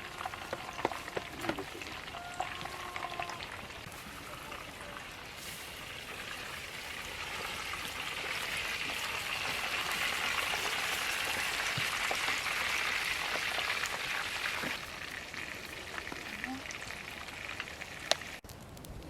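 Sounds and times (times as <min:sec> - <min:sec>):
food sizzling in hot oil: 0:00.0 - 0:18.4.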